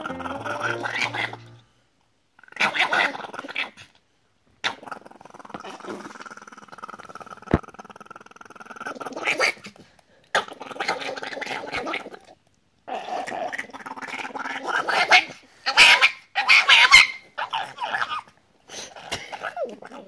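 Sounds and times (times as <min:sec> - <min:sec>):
small dog snarling and growling: 0:02.4 - 0:04.0, 0:04.6 - 0:16.8, 0:17.4 - 0:20.0.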